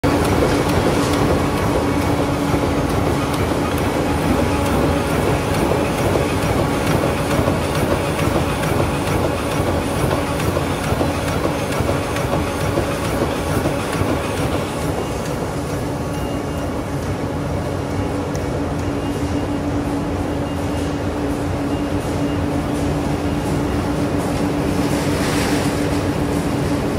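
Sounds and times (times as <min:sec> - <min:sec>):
printing machine running: 0:00.0 - 0:26.9.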